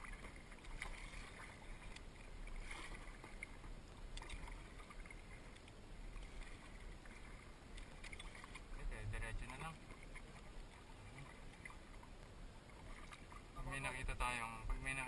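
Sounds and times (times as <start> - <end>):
paddle splashing in water: 0.0 - 13.9
water washing along hull: 0.0 - 15.0.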